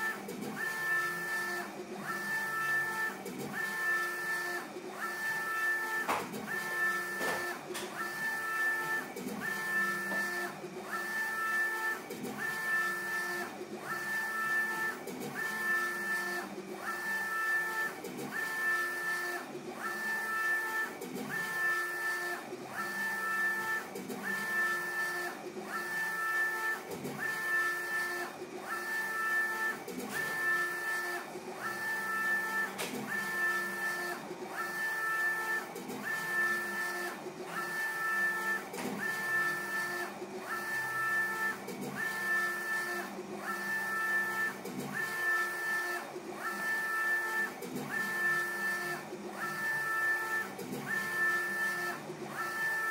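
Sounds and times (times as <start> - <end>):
printer carriage motor whine: 0.0 - 52.9.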